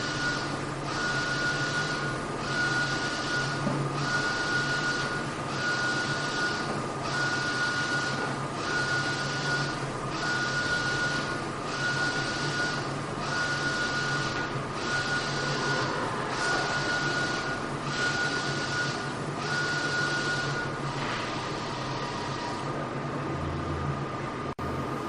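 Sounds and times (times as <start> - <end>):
printer carriage whirring: 0.0 - 25.0.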